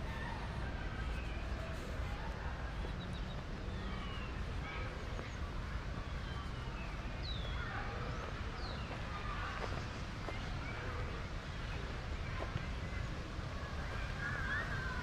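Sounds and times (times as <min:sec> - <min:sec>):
faint distant voices: 0:00.0 - 0:15.0
small birds chirping: 0:02.7 - 0:15.0.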